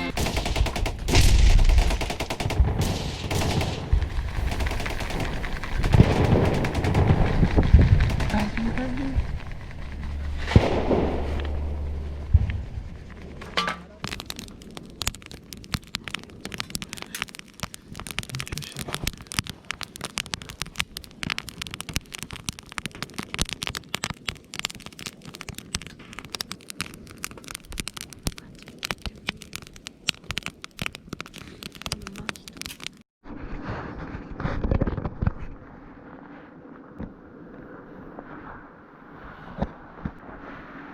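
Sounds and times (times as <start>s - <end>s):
campfire crackling: 0.0s - 33.1s.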